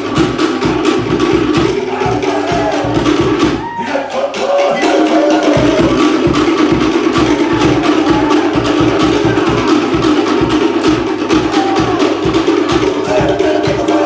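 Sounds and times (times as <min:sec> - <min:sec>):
deep drum beats: 0:00.0 - 0:14.0.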